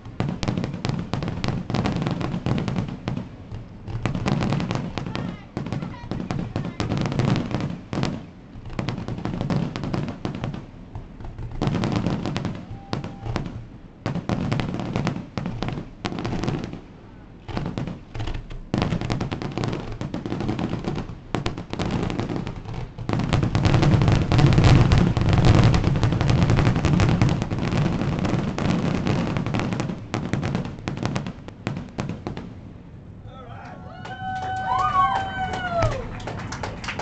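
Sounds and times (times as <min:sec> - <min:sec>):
fireworks bangs and crackling: 0:00.0 - 0:33.2, 0:34.1 - 0:37.0.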